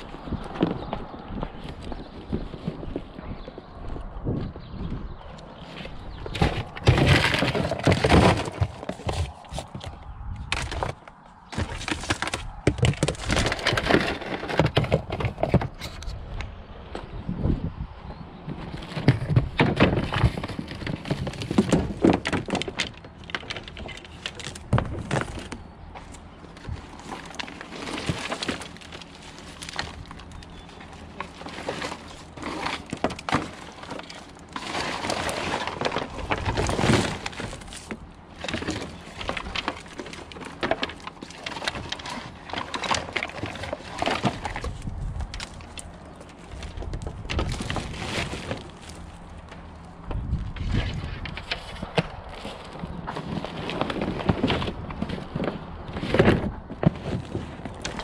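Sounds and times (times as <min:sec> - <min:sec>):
debris clattering in dumpster: 0:06.2 - 0:15.8, 0:18.7 - 0:25.6, 0:26.5 - 0:49.8, 0:50.5 - 0:58.0.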